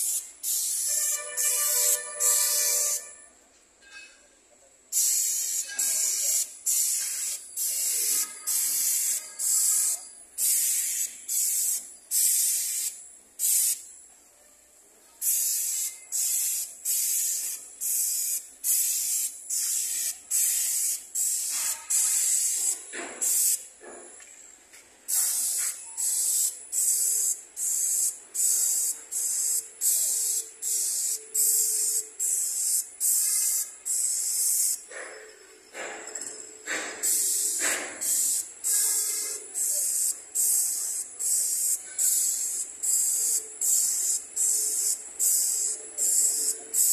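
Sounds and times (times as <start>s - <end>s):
paint spray gun hissing bursts: 0.0s - 3.1s, 4.9s - 13.9s, 15.2s - 23.7s, 25.1s - 35.1s, 36.6s - 46.9s.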